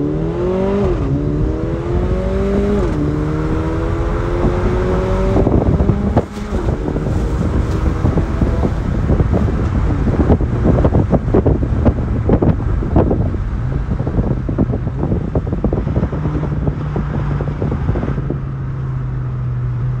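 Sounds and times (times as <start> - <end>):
car engine accelerating: 0.0 - 20.0
road and wind noise: 0.0 - 20.0.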